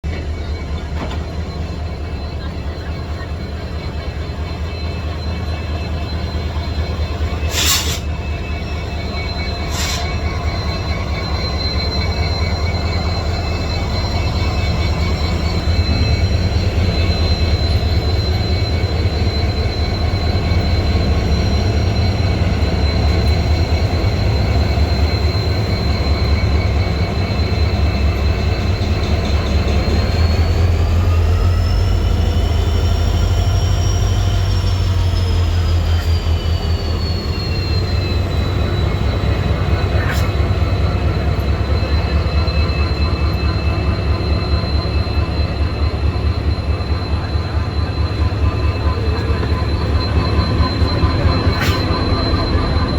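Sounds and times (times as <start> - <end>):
diesel locomotive engine hum: 0.0 - 52.9.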